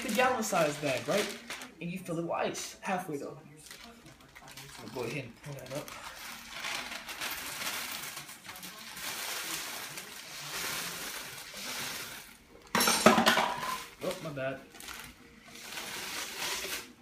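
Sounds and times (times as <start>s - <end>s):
ice pouring into plastic bag: 0.0s - 2.1s, 3.6s - 12.5s, 13.4s - 17.0s.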